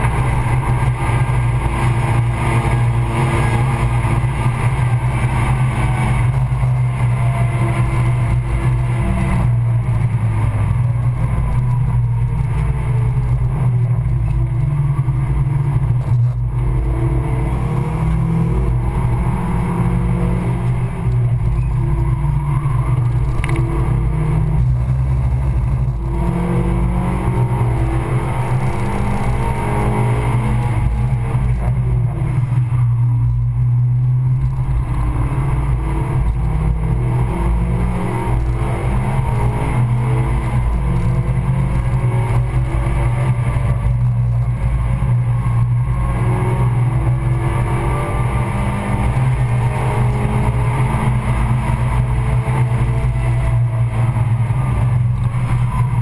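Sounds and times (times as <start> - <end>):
car engine revving: 0.0 - 56.0
road and drivetrain drone: 0.0 - 56.0.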